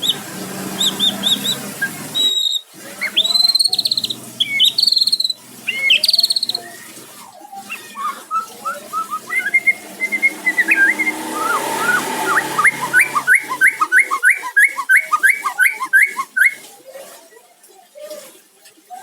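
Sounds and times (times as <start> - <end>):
bird singing whistled notes: 0.0 - 6.8, 7.7 - 16.6.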